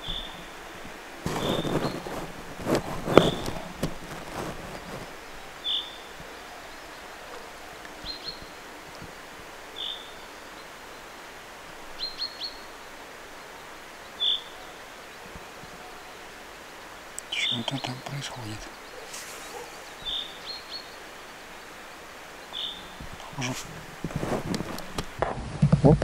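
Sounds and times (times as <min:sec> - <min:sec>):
small bird calling: 0:00.0 - 0:25.2
rustling near microphone: 0:00.0 - 0:26.0.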